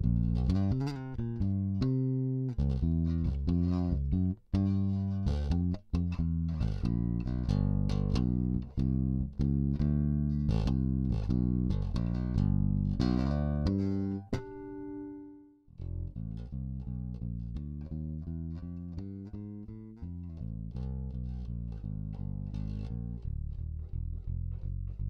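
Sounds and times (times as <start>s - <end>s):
plucked electric bass notes: 0.0s - 25.0s.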